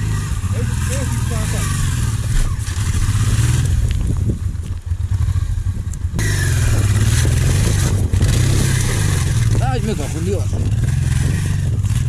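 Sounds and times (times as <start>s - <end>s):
motorcycle engine low revs: 0.0s - 12.0s.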